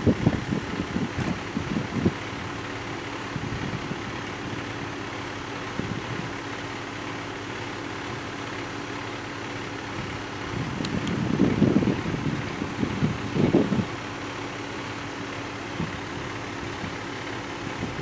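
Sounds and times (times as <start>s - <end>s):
emergency vehicle engine idling: 0.0s - 18.0s.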